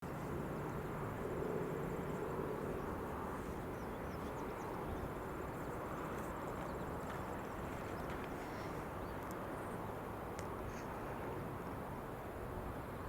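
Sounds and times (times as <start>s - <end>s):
distant diesel locomotives droning: 0.1s - 13.0s.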